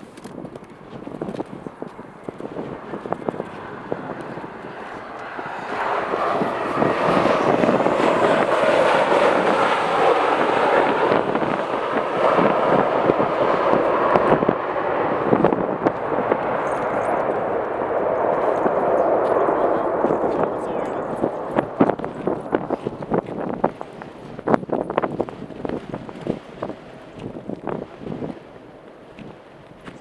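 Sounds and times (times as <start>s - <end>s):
jet engines roaring: 0.0s - 30.0s
wind buffeting microphone: 0.0s - 30.0s.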